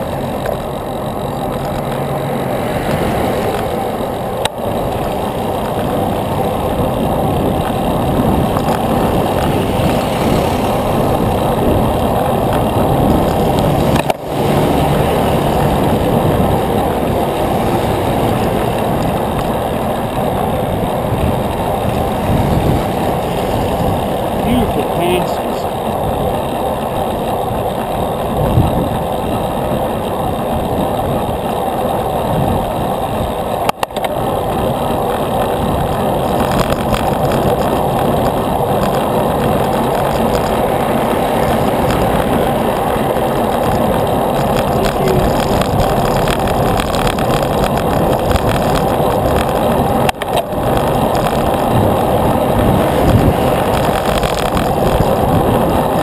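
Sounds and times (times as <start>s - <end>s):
bicycle road noise: 0.0s - 56.0s
wind: 0.0s - 56.0s.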